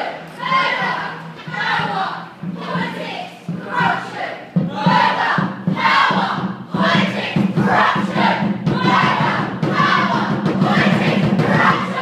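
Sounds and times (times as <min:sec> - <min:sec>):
group of voices chanting: 0:00.0 - 0:12.0
bass drum beats: 0:00.4 - 0:12.0.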